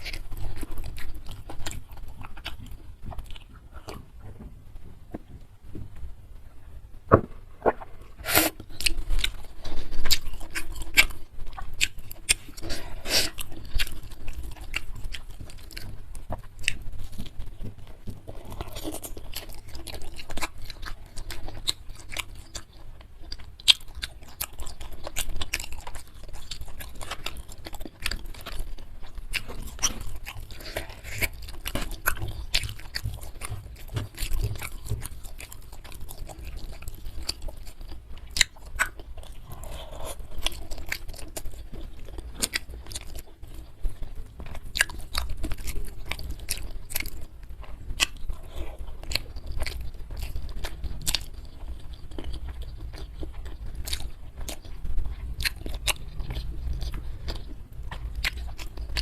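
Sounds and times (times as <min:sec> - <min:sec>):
person crunching food: 0:00.0 - 0:04.2, 0:07.5 - 0:59.0.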